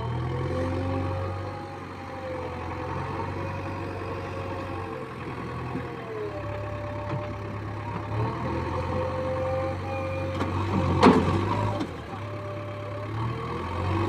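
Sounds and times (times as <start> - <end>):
diesel engine running at low revs: 0.0 - 14.0.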